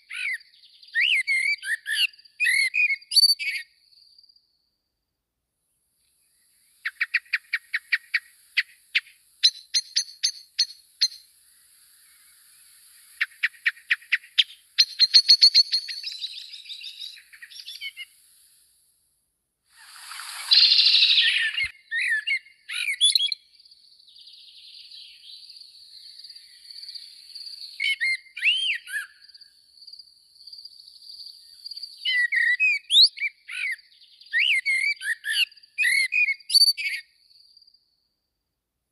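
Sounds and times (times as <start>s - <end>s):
songbirds chirping: 0.0s - 5.1s, 5.7s - 18.8s, 19.8s - 37.9s.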